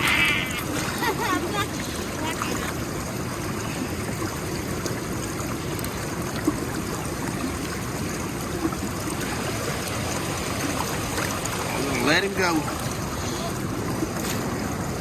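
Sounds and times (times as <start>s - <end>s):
water running over rocks: 0.0s - 15.0s.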